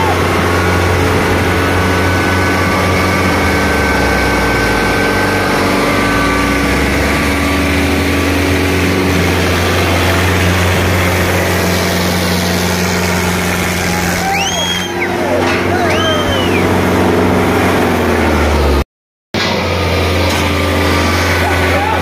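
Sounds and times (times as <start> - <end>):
diesel tractor engines under load: 0.0 - 18.8, 19.4 - 22.0.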